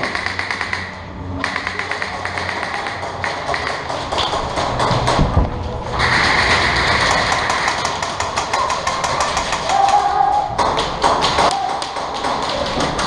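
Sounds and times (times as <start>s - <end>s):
airsoft guns firing: 0.0s - 5.3s, 6.0s - 13.0s.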